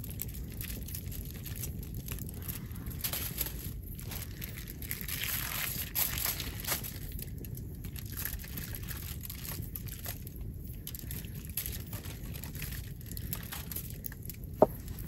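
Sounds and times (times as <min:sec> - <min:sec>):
foil and plastic wrap crinkling: 0:00.0 - 0:15.0.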